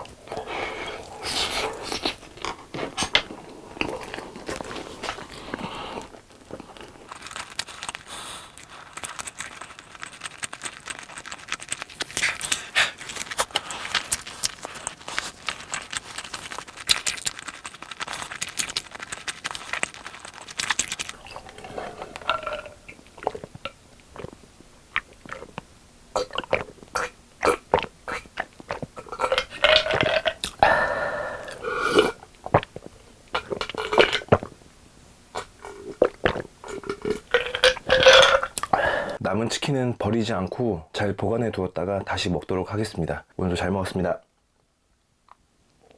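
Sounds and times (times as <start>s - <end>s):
crunchy chewing: 0.0s - 34.7s, 35.3s - 39.2s
wet chewing mouth noises: 0.0s - 34.7s, 35.3s - 39.2s.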